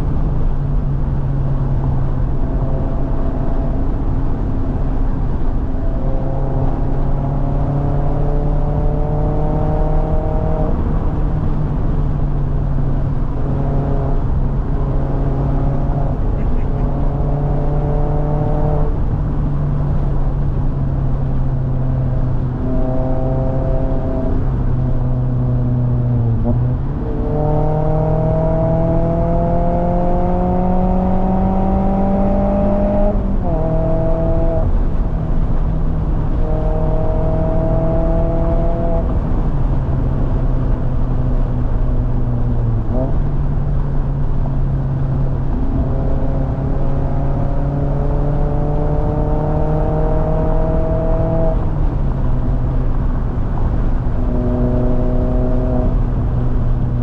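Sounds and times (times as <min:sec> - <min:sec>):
car engine and exhaust pulling hard: 0:00.0 - 0:57.0
road noise: 0:00.0 - 0:57.0.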